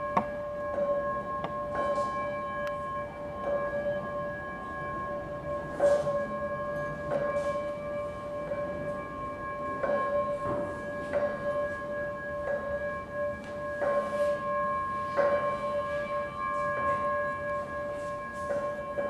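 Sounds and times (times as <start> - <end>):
metal singing bowls ringing: 0.0 - 19.0.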